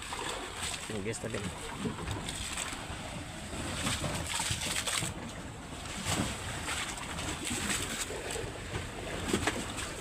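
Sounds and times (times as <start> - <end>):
motorboat engine rumbling: 0.0 - 10.0
water noise: 0.0 - 10.0.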